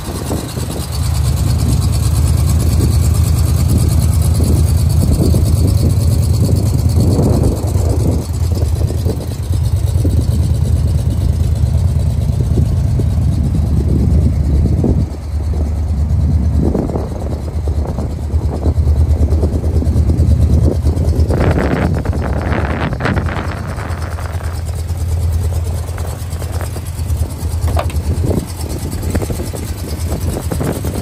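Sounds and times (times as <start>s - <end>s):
pickup truck engine idling: 0.0s - 31.0s.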